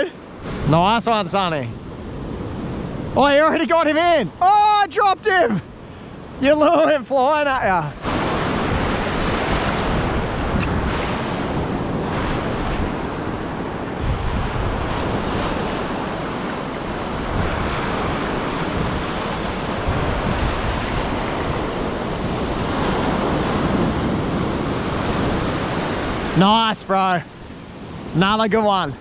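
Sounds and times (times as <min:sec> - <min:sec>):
wind buffeting microphone: 0:00.0 - 0:26.5
ocean surf breaking: 0:00.0 - 0:29.0.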